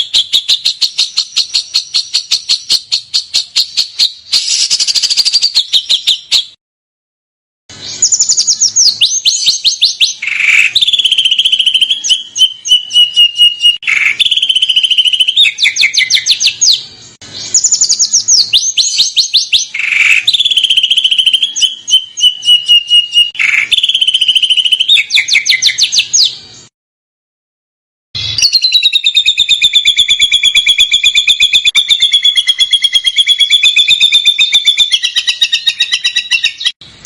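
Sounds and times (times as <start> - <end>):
songbird song with trills: 0.0 - 6.6, 7.7 - 26.7, 28.2 - 37.0.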